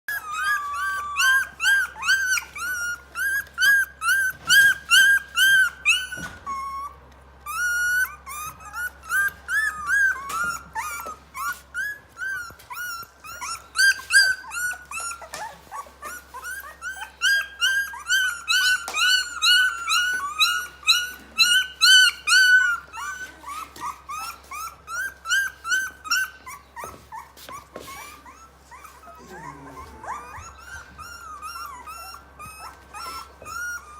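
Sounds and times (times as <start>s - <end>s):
puppies whimpering and squealing: 0.1s - 33.9s.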